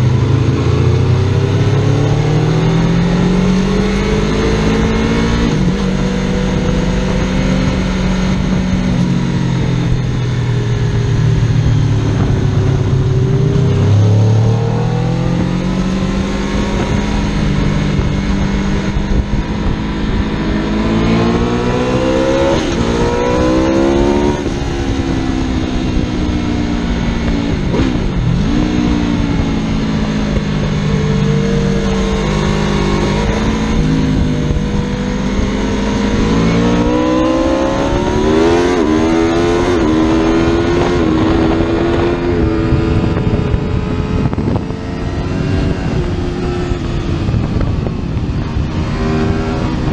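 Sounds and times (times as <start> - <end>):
motorcycle engine accelerating: 0.0 - 49.9
steady rushing noise: 0.0 - 49.9.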